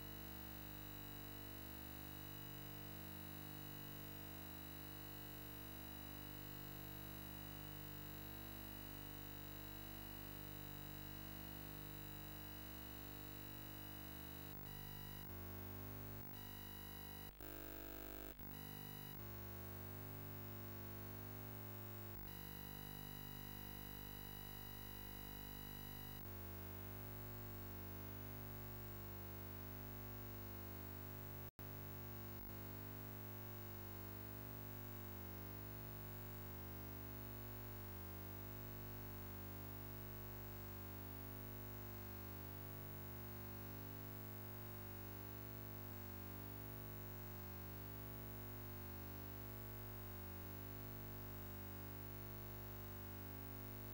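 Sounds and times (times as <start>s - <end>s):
faint electronic hum and buzz: 0.0s - 53.9s.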